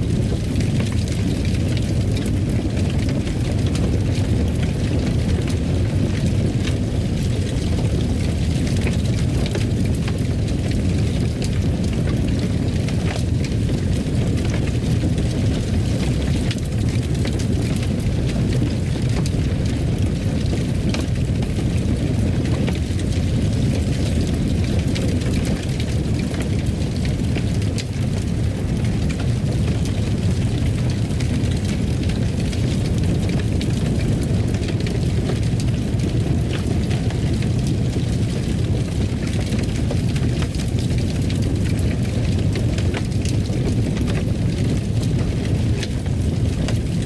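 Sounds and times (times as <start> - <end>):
fire crackling in a fireplace: 0.0 - 47.0.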